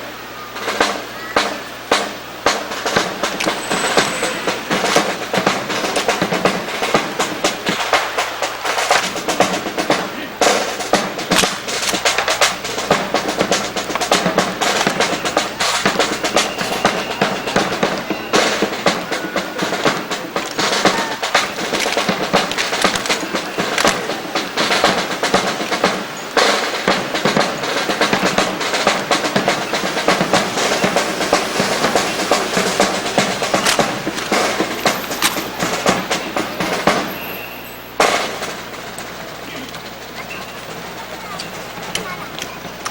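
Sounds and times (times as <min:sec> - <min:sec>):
snare and bass drum cadence: 0:00.0 - 0:42.9.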